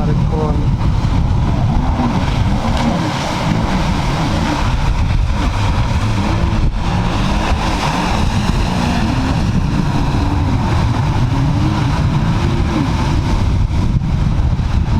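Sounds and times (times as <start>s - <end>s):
jet ski engine: 0.0s - 14.9s
wind and water rumble: 0.0s - 14.9s.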